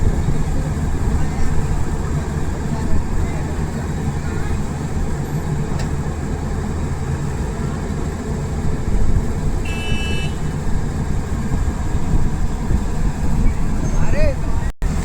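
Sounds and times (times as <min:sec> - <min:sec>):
backhoe engine rumbling: 0:00.0 - 0:15.0.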